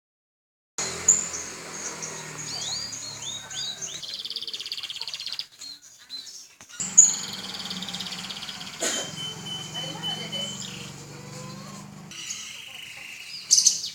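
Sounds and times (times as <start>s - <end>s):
canary singing: 0.8s - 13.9s.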